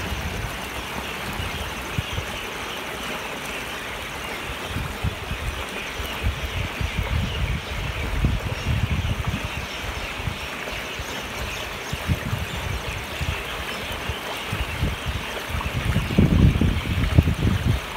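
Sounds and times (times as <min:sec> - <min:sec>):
wind buffeting the microphone: 0:00.0 - 0:02.7, 0:03.9 - 0:17.9
mountain stream rushing: 0:00.0 - 0:17.9.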